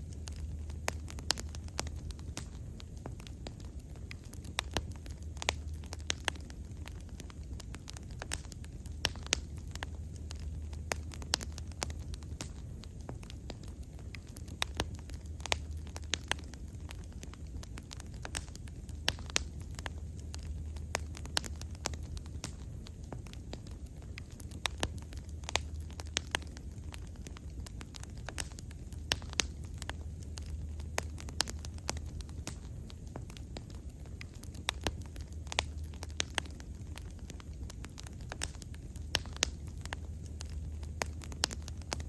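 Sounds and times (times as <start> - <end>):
fire crackling and popping: 0.0 - 42.0
low rumble of flames: 0.0 - 42.0.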